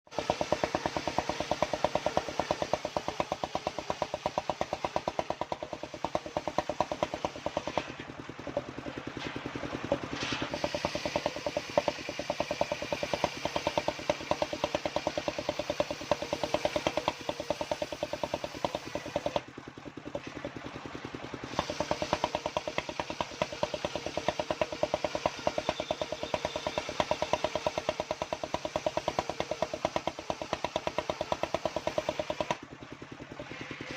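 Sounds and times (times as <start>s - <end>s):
saw engine chugging: 0.0s - 33.9s.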